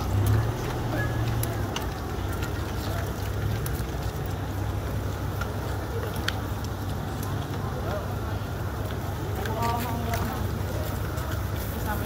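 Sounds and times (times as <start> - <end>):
faint clicks and ticks: 0.0 - 12.0.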